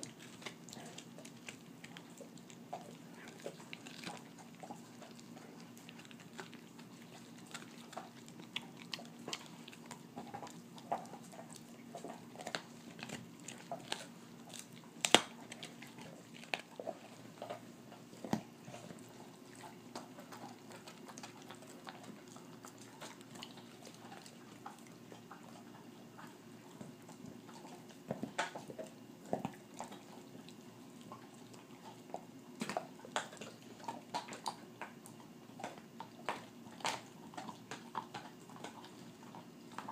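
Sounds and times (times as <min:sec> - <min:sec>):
dog gnawing a bone: 0:00.0 - 0:39.9.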